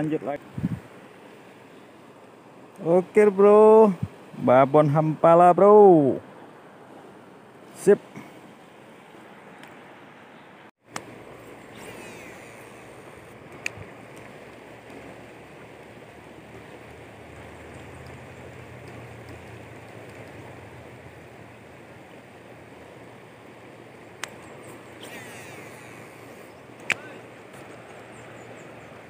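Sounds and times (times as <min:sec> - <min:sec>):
river running over rocks: 0:00.0 - 0:10.3, 0:10.9 - 0:29.0.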